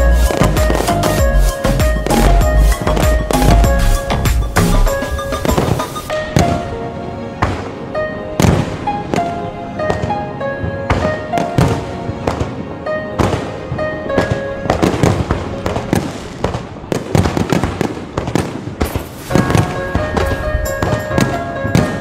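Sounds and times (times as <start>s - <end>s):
fireworks bursting with bangs: 0.0s - 7.8s, 8.4s - 22.0s
music playing a melody: 0.0s - 16.2s, 19.2s - 22.0s.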